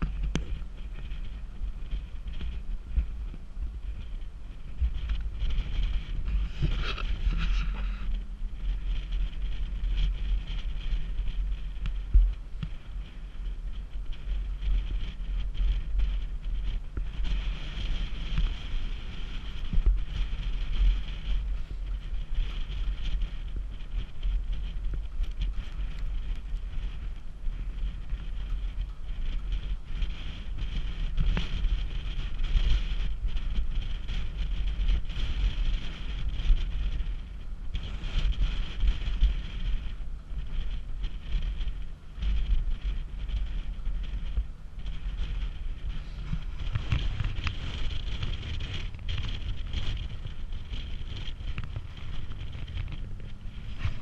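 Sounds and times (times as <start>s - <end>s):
boat engine on water: 0.0s - 54.0s
wind buffeting microphone: 0.0s - 54.0s.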